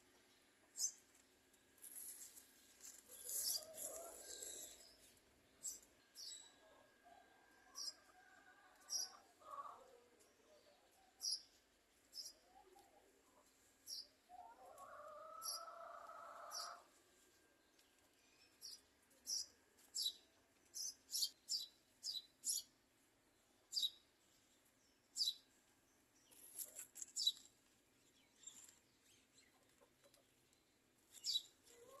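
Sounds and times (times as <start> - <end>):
small birds chirping: 0.0 - 16.9, 17.6 - 32.0.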